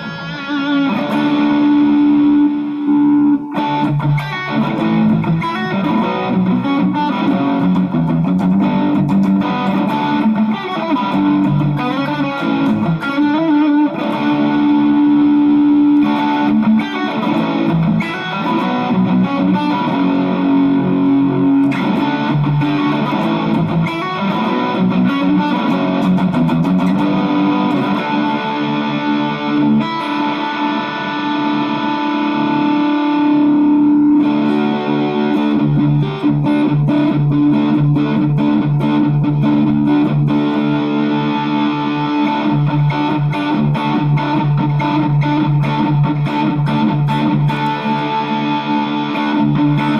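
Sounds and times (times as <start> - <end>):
distorted electric guitar: 0.0 - 49.9.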